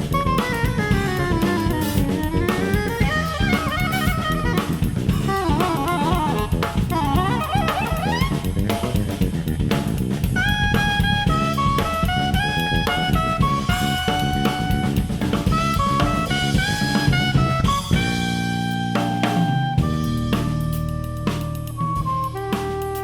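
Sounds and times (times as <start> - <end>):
saxophone: 0.0 - 9.0, 10.2 - 23.0
drum kit: 0.0 - 23.0
electric bass: 0.0 - 23.0.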